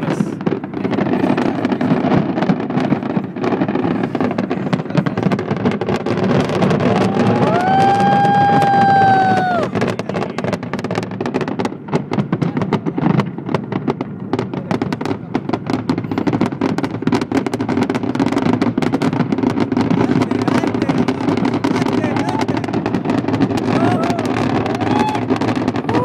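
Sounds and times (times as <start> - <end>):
fireworks bangs and pops: 0.0 - 26.0.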